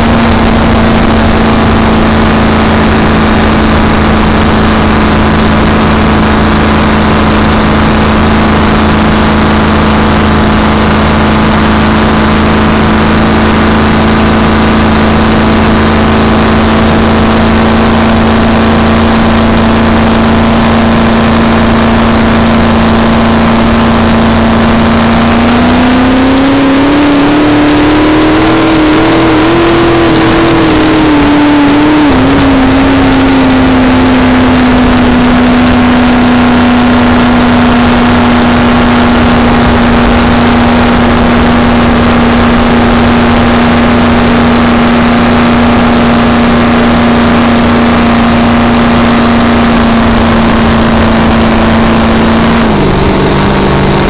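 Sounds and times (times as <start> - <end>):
race boat engine running: 0.0 - 54.0.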